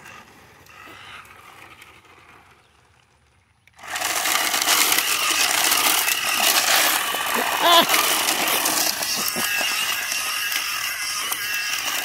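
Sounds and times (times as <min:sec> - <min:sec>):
remote-control car motor: 0:00.0 - 0:12.0
wheels spinning on gravel: 0:00.0 - 0:12.0.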